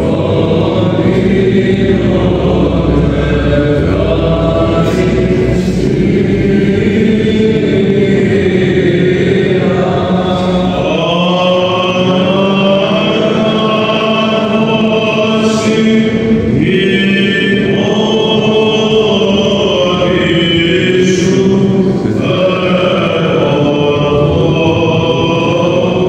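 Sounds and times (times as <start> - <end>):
low held drone note: 0.0 - 26.0
voices chanting long notes: 0.0 - 26.0.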